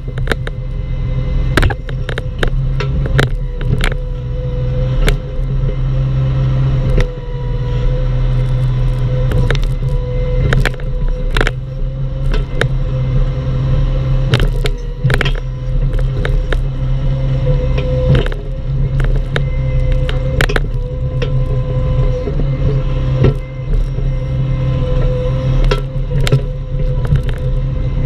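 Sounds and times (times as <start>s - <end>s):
excavator diesel engine running: 0.0s - 28.0s
steady whine: 0.0s - 28.0s.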